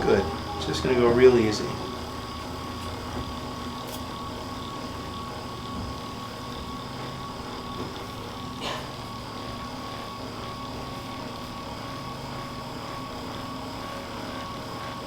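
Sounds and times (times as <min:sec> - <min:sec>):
electric massager motor drone: 0:00.0 - 0:15.0.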